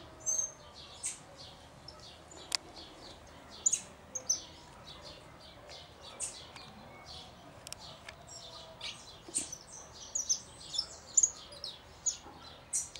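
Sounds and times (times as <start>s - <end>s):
small songbirds chirping: 0.0s - 12.9s.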